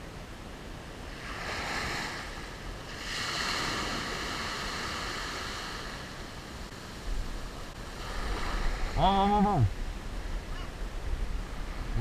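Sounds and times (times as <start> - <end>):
waves washing up a beach: 0.0 - 12.0.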